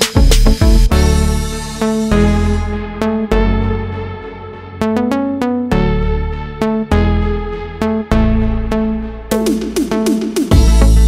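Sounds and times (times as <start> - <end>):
background music with deep bass: 0.0 - 11.0.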